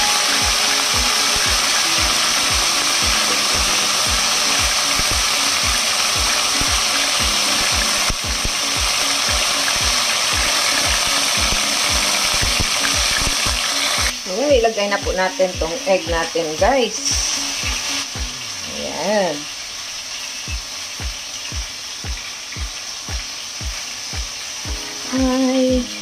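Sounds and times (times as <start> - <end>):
background music with beat: 0.0 - 18.7, 20.5 - 26.0
chicken sizzling in oil: 0.0 - 26.0.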